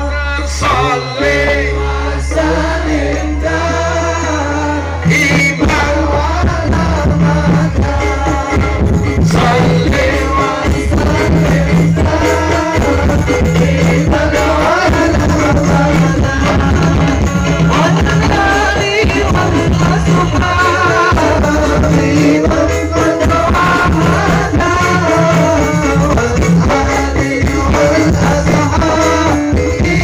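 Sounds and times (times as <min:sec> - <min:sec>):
voices singing devotional song: 0:00.0 - 0:30.0.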